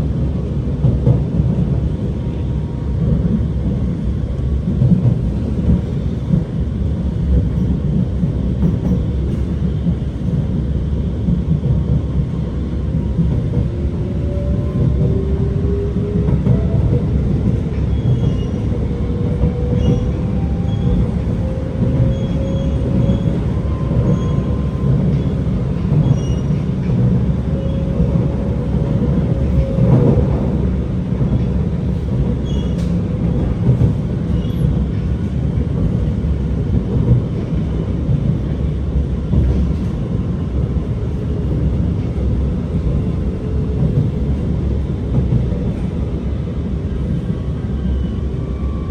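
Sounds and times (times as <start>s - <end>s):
wheels rumbling on rail: 0.0s - 48.9s.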